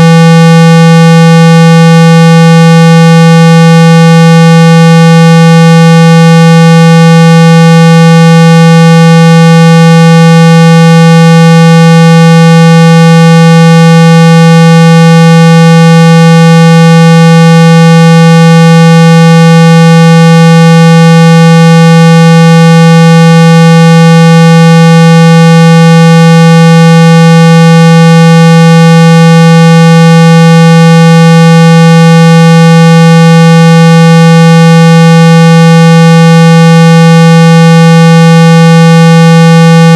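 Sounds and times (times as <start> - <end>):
loud buzzy steady tone: 0.0 - 39.9.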